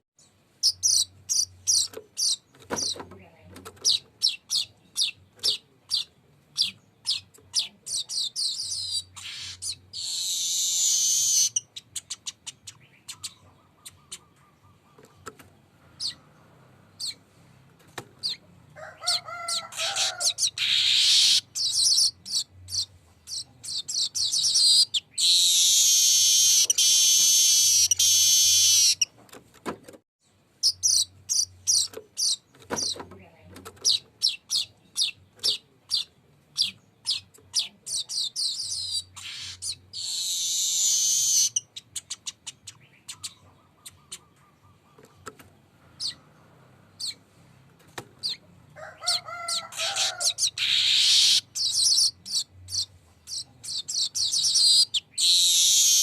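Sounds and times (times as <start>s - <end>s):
weaver bird singing: 0.2s - 3.1s, 3.7s - 15.3s, 16.0s - 17.2s, 19.1s - 29.1s, 30.6s - 33.0s, 33.8s - 45.3s, 46.0s - 46.2s, 49.4s - 56.0s.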